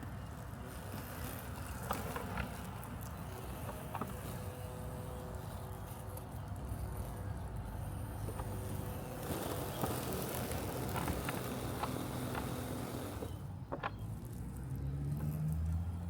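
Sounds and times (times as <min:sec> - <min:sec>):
robotic lawn mower humming: 0:00.4 - 0:13.6.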